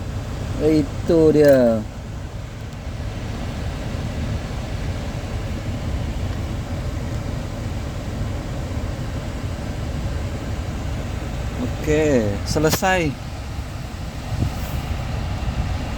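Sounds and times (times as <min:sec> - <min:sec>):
air conditioning fan hiss: 0:00.0 - 0:15.9
vehicle idling low rumble: 0:00.0 - 0:15.9.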